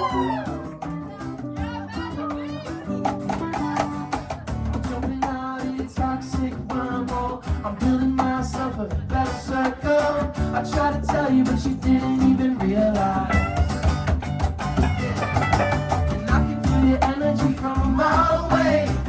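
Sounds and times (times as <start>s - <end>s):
electric guitar: 0.0s - 19.0s
live band playing upbeat song: 0.0s - 19.0s.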